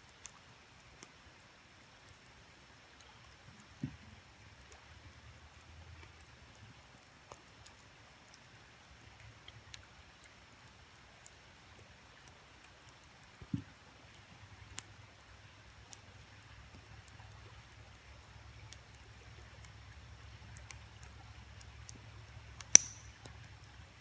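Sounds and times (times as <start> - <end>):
campfire crackling and popping: 1.8 - 24.0.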